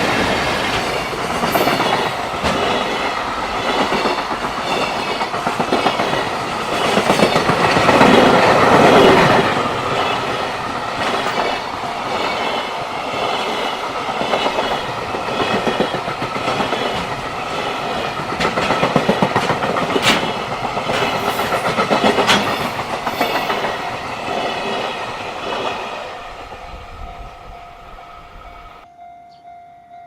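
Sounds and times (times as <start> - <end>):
freight train wheels clattering: 0.0 - 27.8.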